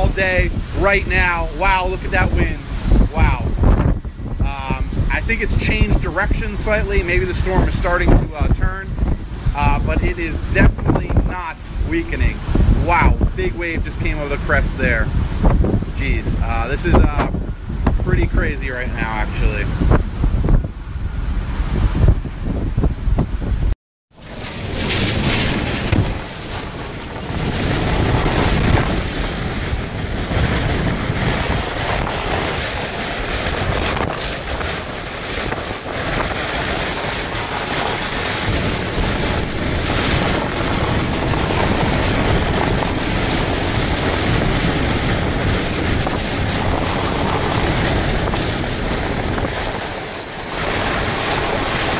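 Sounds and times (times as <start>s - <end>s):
waves breaking: 0.0s - 51.9s
wind buffeting microphone: 0.0s - 51.9s.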